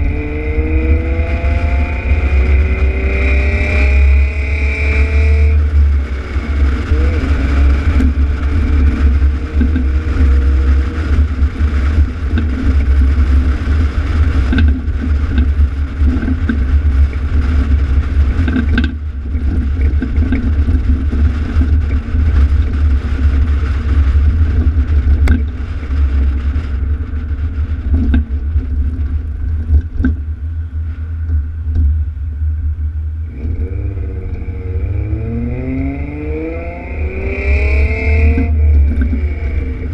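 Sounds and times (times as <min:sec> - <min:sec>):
car exhaust droning: 0:00.0 - 0:39.9.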